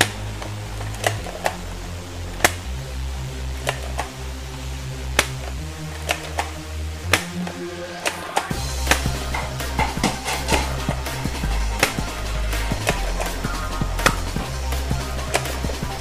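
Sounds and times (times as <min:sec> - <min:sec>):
background music with low bass: 0:00.0 - 0:16.0.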